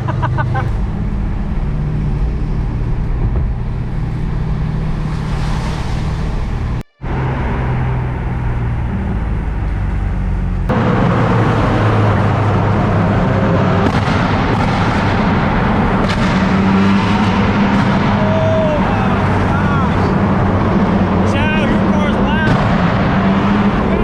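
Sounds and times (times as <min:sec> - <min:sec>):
car engine drone while driving: 0:00.0 - 0:24.0
tyre noise on wet road: 0:00.0 - 0:24.0.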